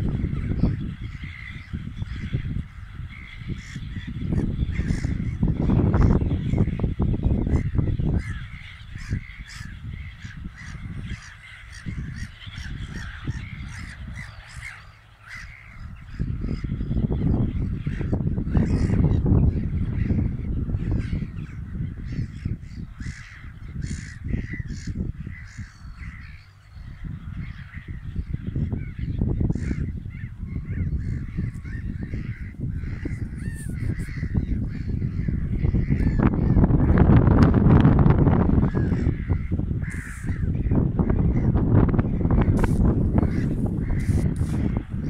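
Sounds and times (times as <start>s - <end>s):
gusty low rumble: 0.0s - 14.6s, 15.5s - 45.0s
flock of gulls calling: 0.0s - 45.0s.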